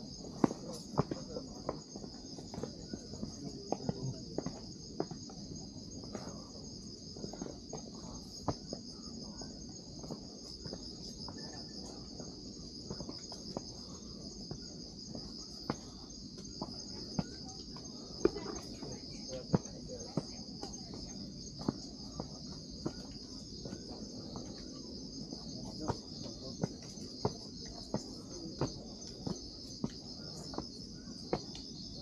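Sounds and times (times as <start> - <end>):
night insects chorus: 0.0 - 32.0.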